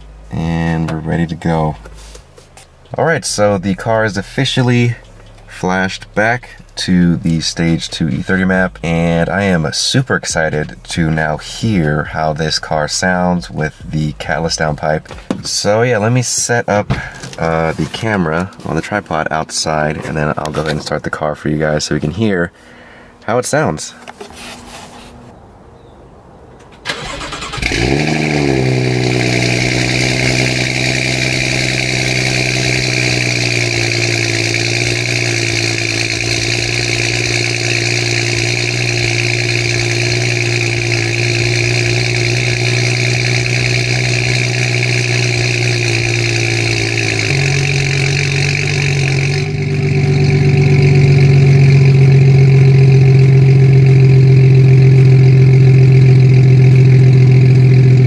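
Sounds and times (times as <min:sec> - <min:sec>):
car engine starting and idling: 0:00.0 - 0:21.5, 0:26.6 - 0:58.0.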